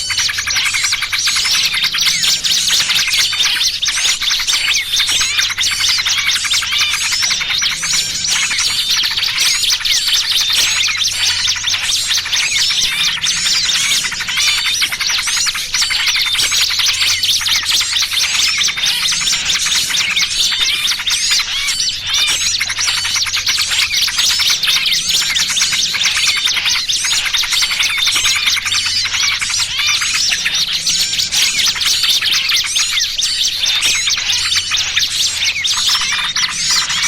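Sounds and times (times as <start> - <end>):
songbirds chirping and twittering: 0.0 - 37.0
trapped small bird calling: 0.0 - 37.0.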